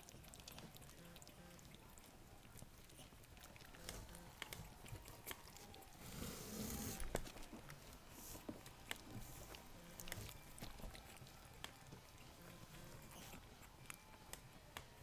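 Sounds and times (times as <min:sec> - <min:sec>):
puppy snuffling: 0:00.0 - 0:14.4.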